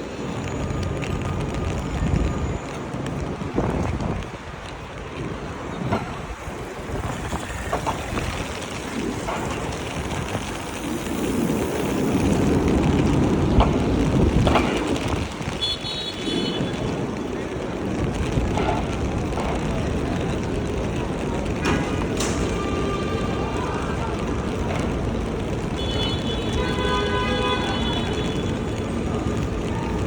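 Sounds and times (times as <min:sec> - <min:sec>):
wind buffeting microphone: 0:00.0 - 0:26.9
traffic: 0:00.0 - 0:30.0.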